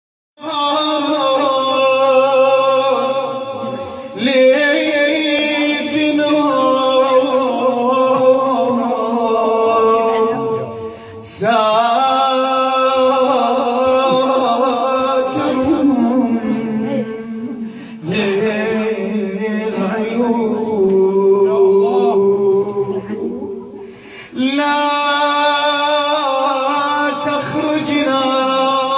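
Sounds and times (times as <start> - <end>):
man chanting devotional melody: 0.4 - 28.9.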